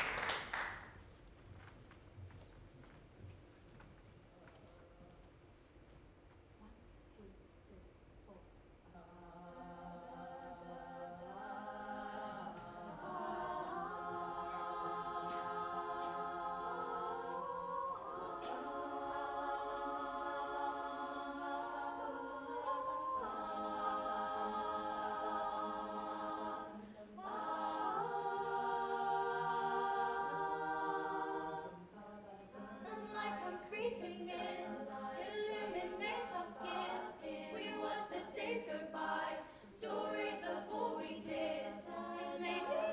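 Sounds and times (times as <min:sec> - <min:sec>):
girls singing a cappella harmony: 0:08.3 - 0:42.9.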